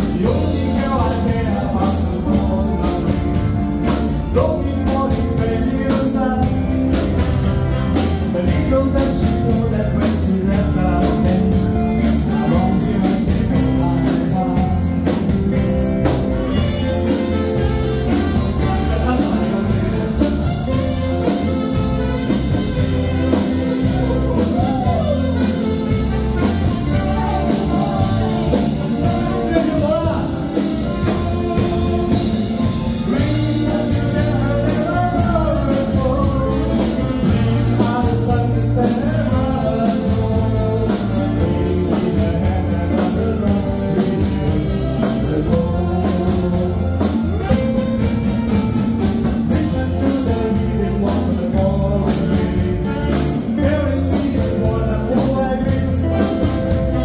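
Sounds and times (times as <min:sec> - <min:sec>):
drum kit beat: 0:00.0 - 0:57.0
electric guitars: 0:00.0 - 0:57.0
live band playing pop song: 0:00.0 - 0:57.0
person singing: 0:00.0 - 0:57.0.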